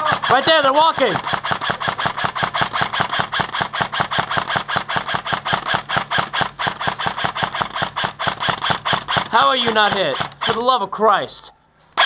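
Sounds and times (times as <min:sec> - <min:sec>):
airsoft rifle full-auto firing: 0:00.0 - 0:10.7.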